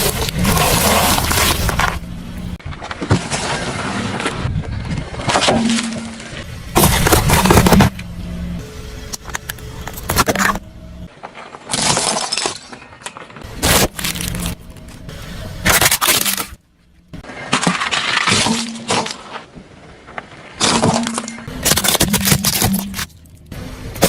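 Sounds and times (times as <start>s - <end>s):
objects crunching under tyres: 0.0s - 8.1s, 9.0s - 24.0s.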